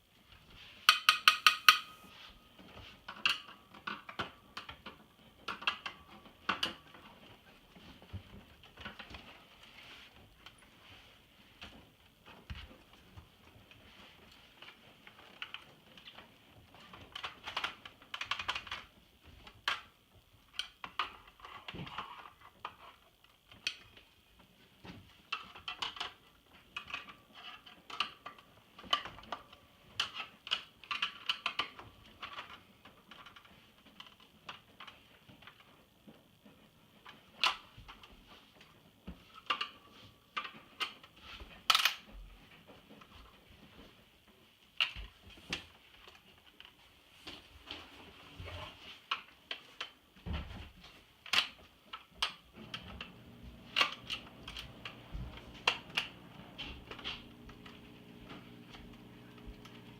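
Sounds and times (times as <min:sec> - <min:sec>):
small hard parts clicking and rattling: 0:00.3 - 0:09.7, 0:11.6 - 0:59.9.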